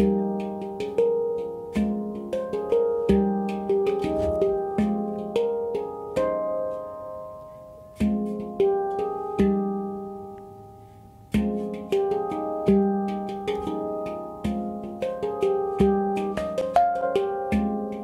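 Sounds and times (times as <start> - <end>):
handpan notes ringing: 0.0 - 18.0.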